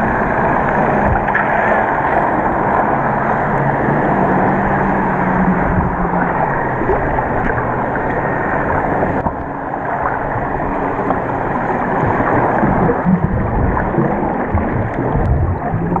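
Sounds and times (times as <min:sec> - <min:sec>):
low hum: 0:00.0 - 0:16.0
muffled underwater rushing: 0:00.0 - 0:16.0.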